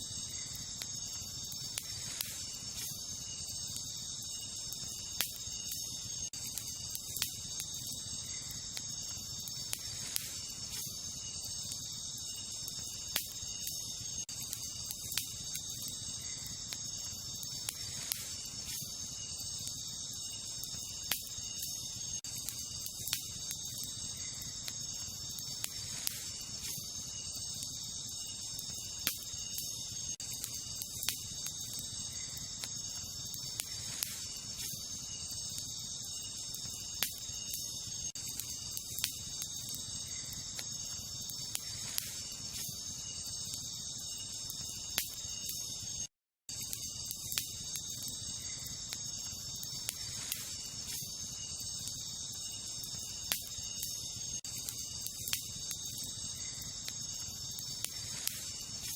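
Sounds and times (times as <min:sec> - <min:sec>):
campfire crackling and popping: 0:00.0 - 0:58.9
crickets chirring: 0:00.0 - 0:58.9.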